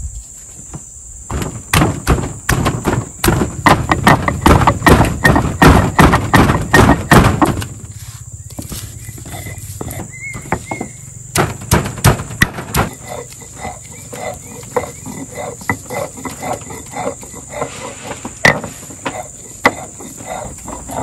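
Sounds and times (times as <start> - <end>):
stone roller grinding: 2.8 - 7.7, 8.5 - 21.0.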